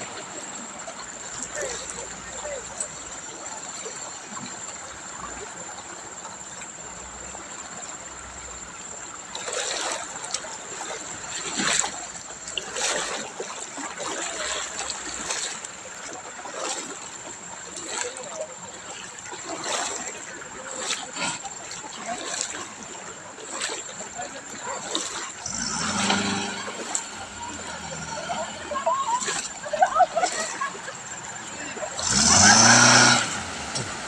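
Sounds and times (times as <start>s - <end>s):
river water running: 0.0s - 34.0s
water splashes: 0.0s - 34.0s.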